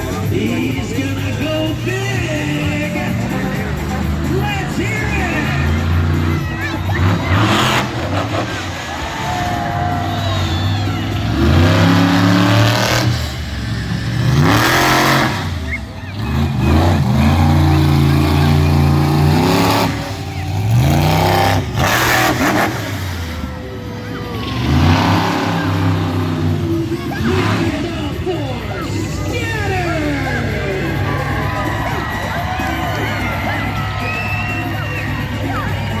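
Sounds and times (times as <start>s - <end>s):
monster truck engine revving: 0.0s - 36.0s.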